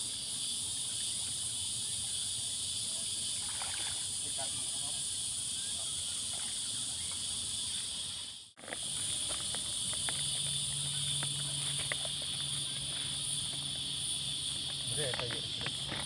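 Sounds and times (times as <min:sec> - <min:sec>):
high insect chorus buzzing: 0:00.0 - 0:16.0.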